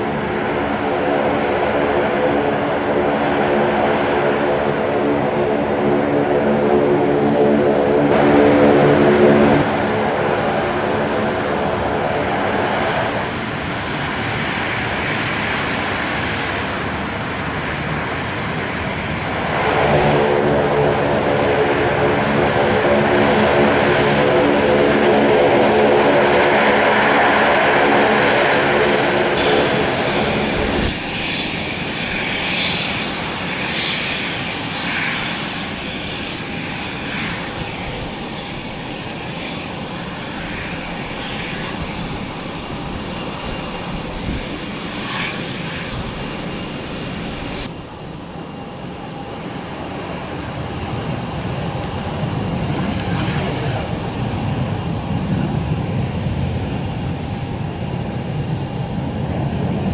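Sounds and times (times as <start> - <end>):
jet engine whine: 0.0 - 59.9
turboprop propeller drone: 0.0 - 59.9.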